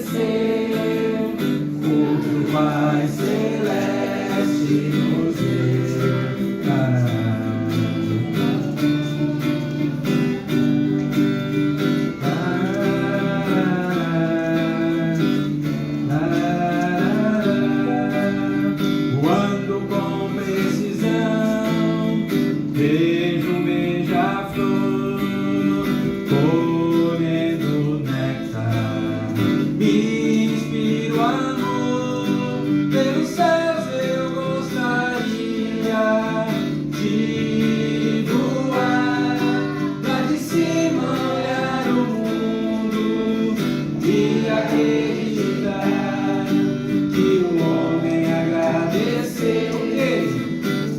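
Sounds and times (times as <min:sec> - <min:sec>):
strummed acoustic guitar: 0:00.0 - 0:50.9
sung melody: 0:00.0 - 0:50.9.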